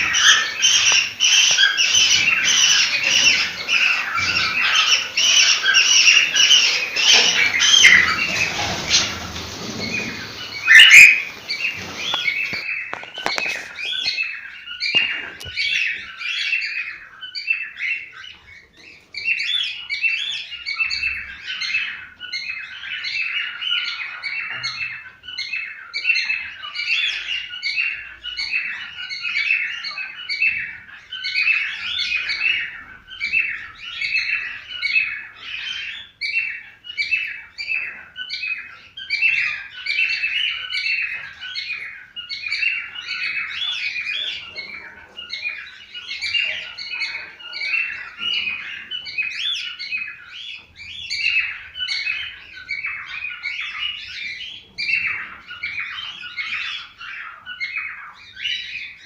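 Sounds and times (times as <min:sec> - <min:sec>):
cockatiels chirping and warbling: 0:00.0 - 0:59.0.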